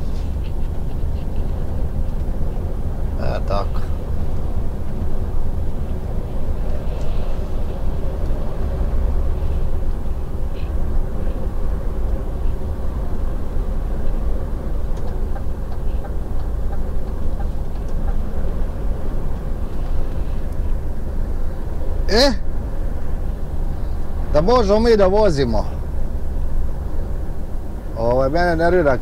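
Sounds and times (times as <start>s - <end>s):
road rumble: 0.0s - 29.0s
truck engine drone: 0.0s - 29.0s.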